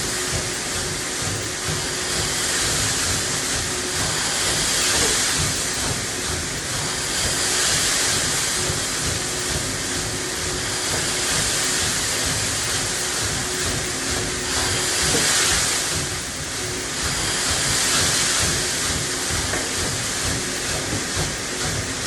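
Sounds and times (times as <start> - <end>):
machinery hiss: 0.0 - 22.0
machinery hum: 0.0 - 22.0.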